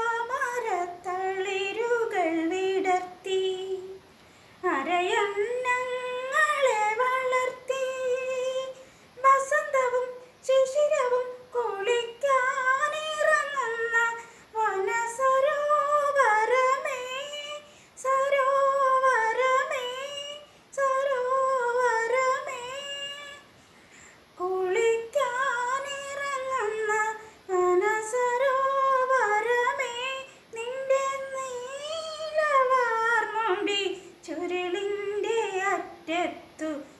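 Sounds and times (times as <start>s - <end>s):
woman singing unaccompanied: 0.0s - 23.6s, 24.3s - 36.9s.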